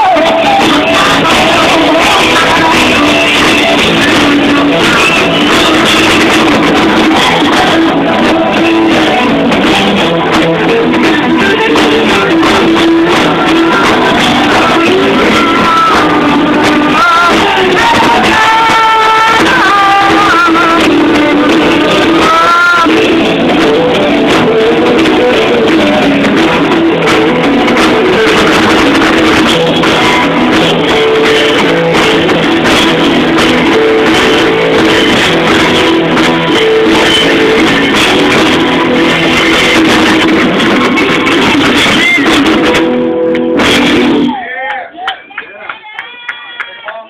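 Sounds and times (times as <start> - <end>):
drum kit: 0.0 - 44.4
electric guitars: 0.0 - 44.4
bass guitar: 0.0 - 44.6.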